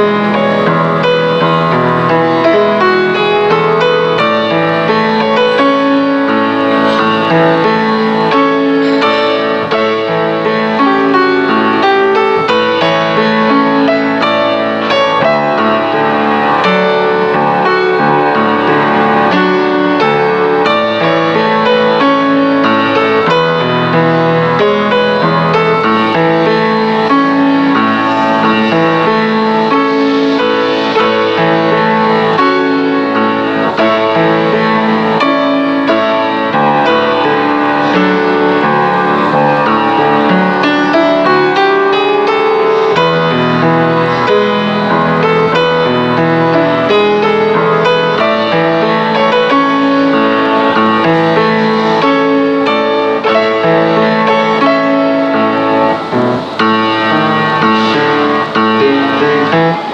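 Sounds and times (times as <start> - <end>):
piano background music: 0.0 - 59.9.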